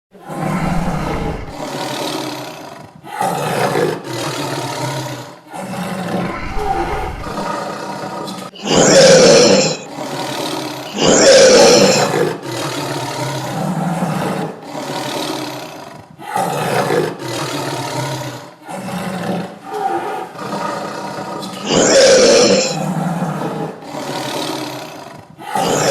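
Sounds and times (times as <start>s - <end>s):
tiger growling: 0.1s - 25.9s
tiger roaring: 0.1s - 25.9s.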